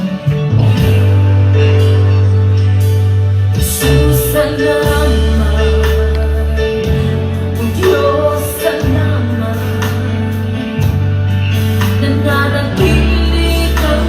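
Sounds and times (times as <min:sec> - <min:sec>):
worship song singing over chords: 0:00.0 - 0:14.0.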